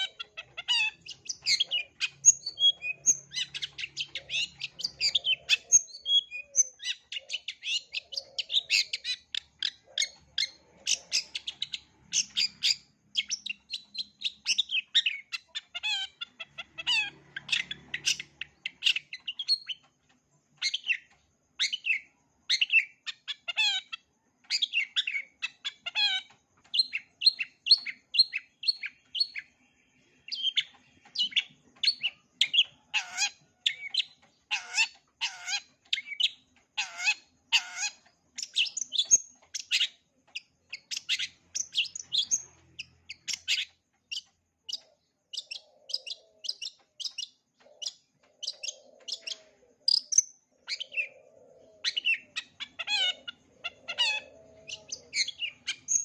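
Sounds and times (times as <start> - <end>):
bird singing rapid chirps: 0.0 - 56.0.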